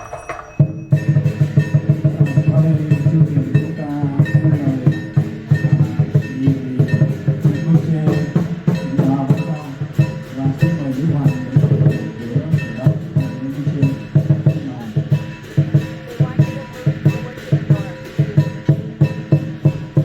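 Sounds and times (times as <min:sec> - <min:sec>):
music with quick beat: 0:00.0 - 0:20.0.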